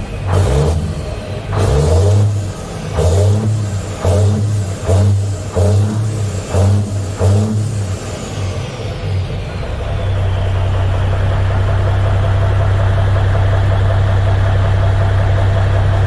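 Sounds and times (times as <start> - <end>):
diesel engine idling: 0.0 - 16.0
diesel engine revving: 0.0 - 16.0.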